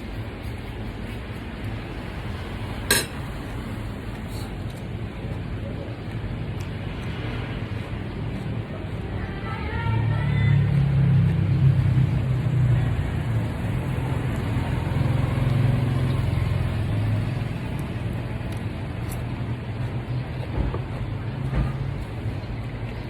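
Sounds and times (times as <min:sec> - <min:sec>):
road noise: 0:00.0 - 0:23.0
road vehicle rumble: 0:00.0 - 0:23.0.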